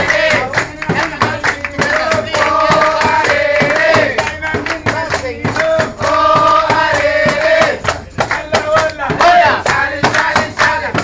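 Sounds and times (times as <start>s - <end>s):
frame drum beat: 0.0s - 11.0s
hand clapping: 0.0s - 11.0s
men singing together: 0.0s - 11.0s.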